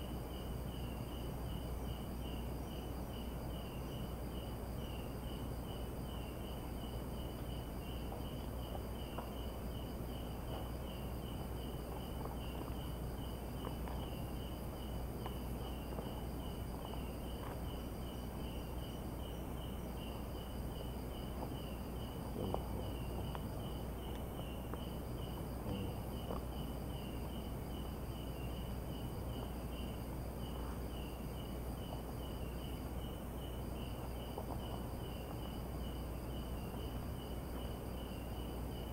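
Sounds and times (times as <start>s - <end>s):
crickets chirping: 0.0s - 38.9s
faint high steady whine: 0.0s - 38.9s
low even hiss: 0.0s - 38.9s.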